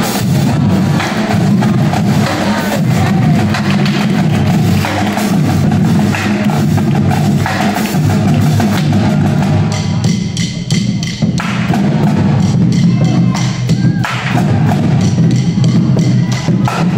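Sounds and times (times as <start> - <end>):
bass drums: 0.0 - 16.9
cymbals: 0.0 - 16.9
marching snare drums: 0.0 - 16.9
tenor drums: 0.0 - 16.9.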